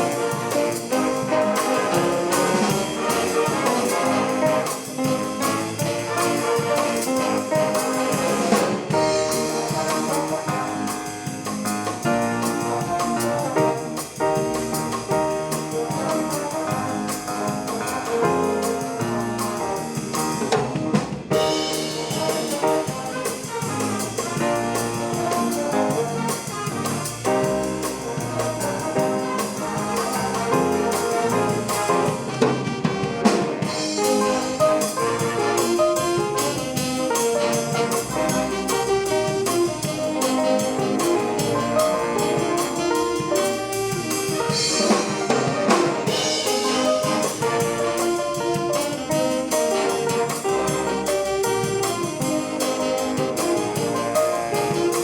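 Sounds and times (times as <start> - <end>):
drum kit: 0.0 - 55.0
swing band playing jazz: 0.0 - 55.0
trumpets and trombones: 0.0 - 55.0.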